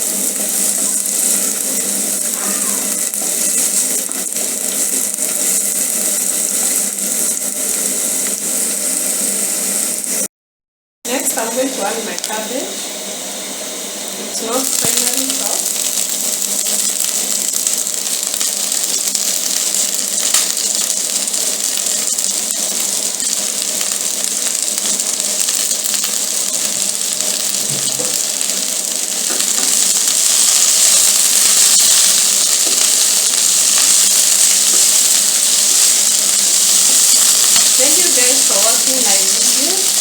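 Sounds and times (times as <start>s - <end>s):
vegetables sizzling in a pan: 0.0s - 10.3s, 11.1s - 40.0s.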